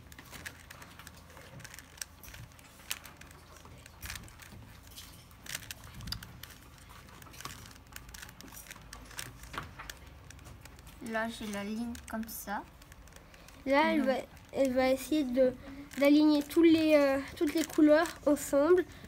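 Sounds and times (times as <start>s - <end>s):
puzzle cube clicking and rattling: 0.0s - 19.0s.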